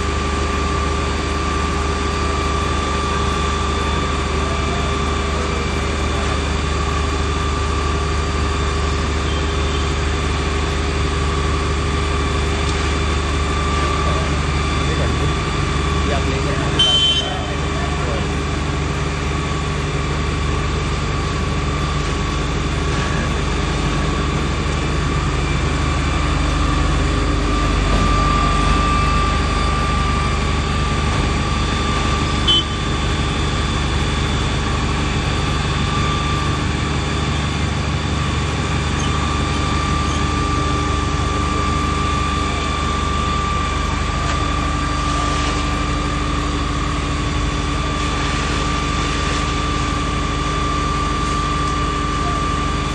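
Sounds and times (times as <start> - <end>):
heavy engine rumbling with whine: 0.0 - 52.9.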